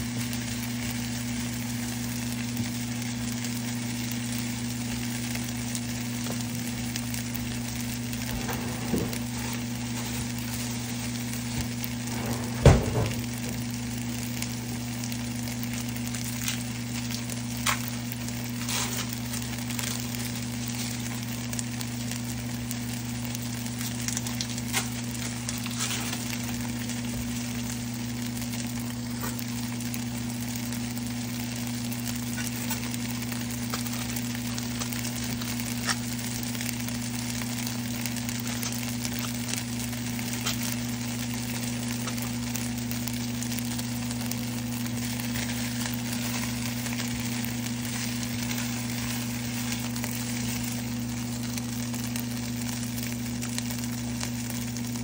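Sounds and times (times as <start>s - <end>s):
chicken sizzling in a frying pan: 0.0s - 55.0s
low hum: 6.3s - 53.1s.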